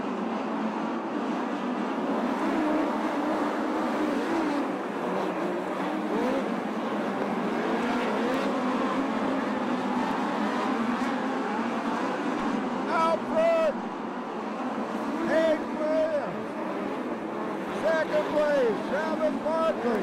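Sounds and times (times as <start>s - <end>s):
race car engines passing: 0.0s - 20.0s.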